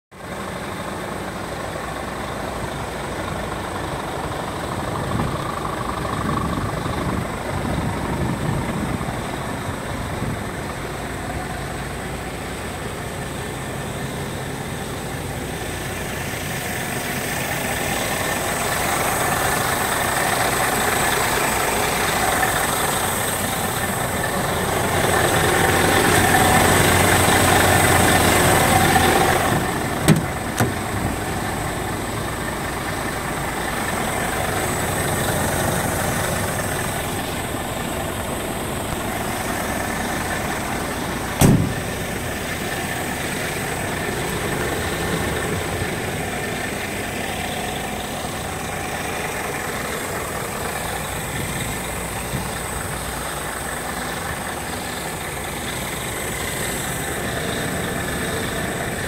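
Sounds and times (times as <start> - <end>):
diesel truck engine idling: 0.1 - 59.0.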